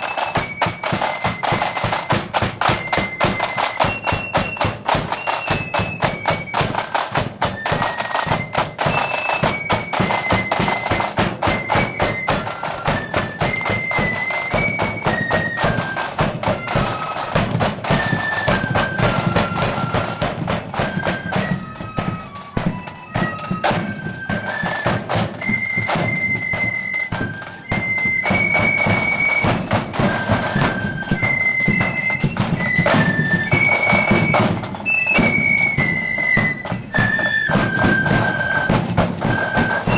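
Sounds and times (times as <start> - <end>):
drums beating time: 0.0 - 39.9
flute band melody: 0.0 - 39.9.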